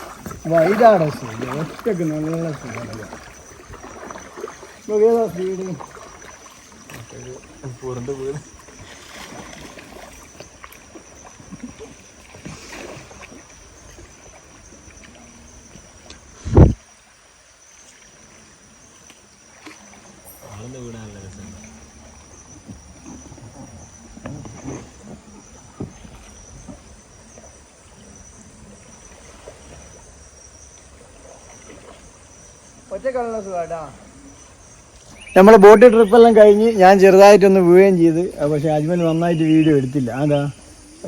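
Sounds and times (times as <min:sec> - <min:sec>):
insects chirring: 0:00.0 - 0:41.0
paddles swishing through water: 0:00.0 - 0:41.0.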